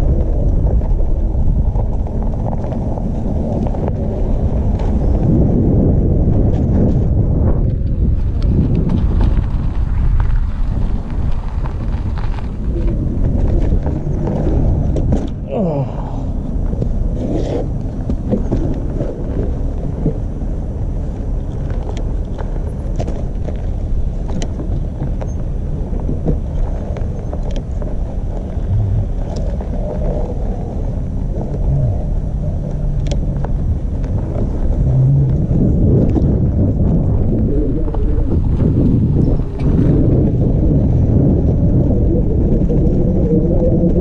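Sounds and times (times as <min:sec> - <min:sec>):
electric bike low rumble: 0:00.0 - 0:44.0.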